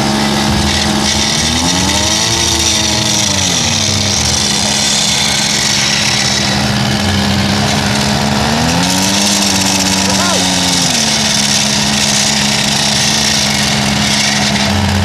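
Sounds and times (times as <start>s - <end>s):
small petrol engine revving: 0.0s - 15.0s.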